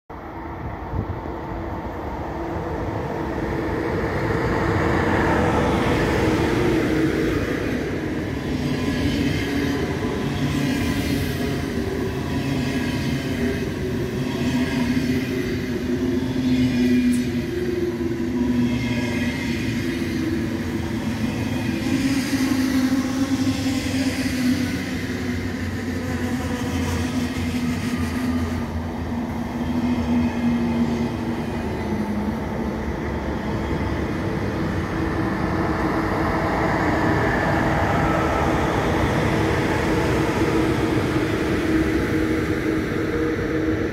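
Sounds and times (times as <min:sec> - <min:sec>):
high-speed train passing: 0:00.1 - 0:43.9.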